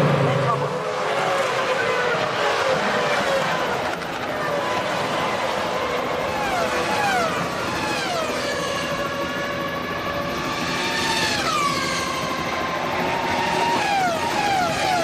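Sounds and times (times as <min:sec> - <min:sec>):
racing cars passing at high revs: 0:00.0 - 0:15.0.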